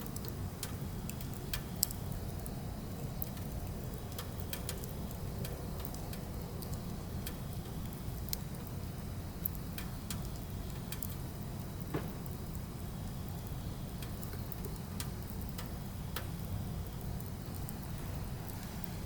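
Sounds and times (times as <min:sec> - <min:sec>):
firewood crackling and popping: 0:00.0 - 0:19.0
low fire rumble: 0:00.0 - 0:19.0.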